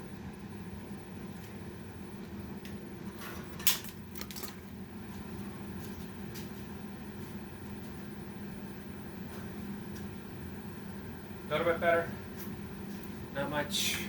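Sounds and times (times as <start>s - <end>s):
fan-like hum: 0.0s - 14.0s.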